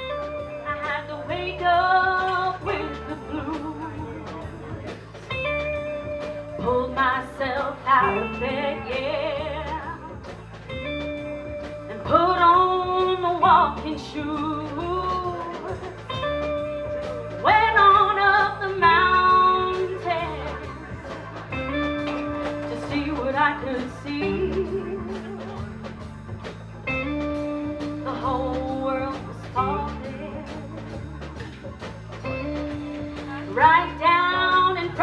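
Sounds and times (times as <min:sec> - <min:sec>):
bending lead guitar line: 0:00.0 - 0:35.0
live rock band playing: 0:00.0 - 0:35.0.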